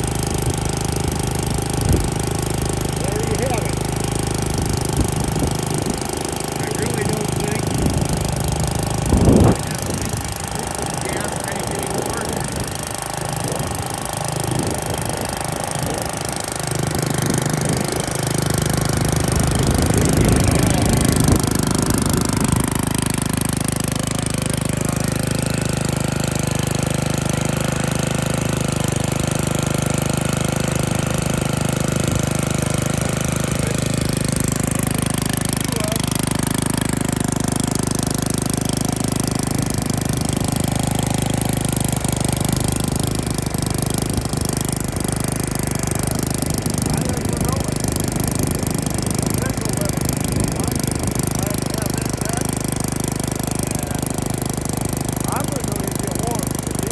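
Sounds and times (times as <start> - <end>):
small gasoline engine running: 0.0 - 56.9.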